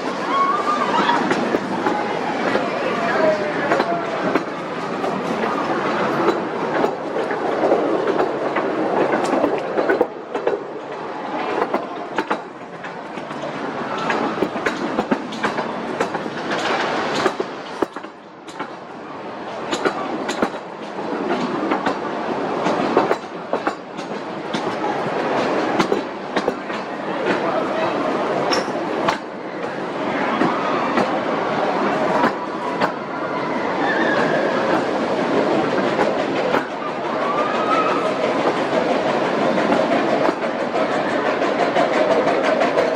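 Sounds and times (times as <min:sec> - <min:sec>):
train rumbling on track: 0:00.0 - 0:42.9
wheels clacking over rail joints: 0:00.0 - 0:42.9.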